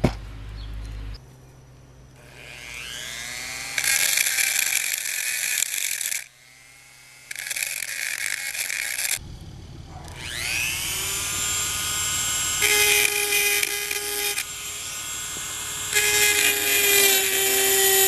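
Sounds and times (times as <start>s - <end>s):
loud rasping bursts: 2.2s - 9.2s, 9.9s - 18.0s
power tool motor whine: 2.2s - 18.0s.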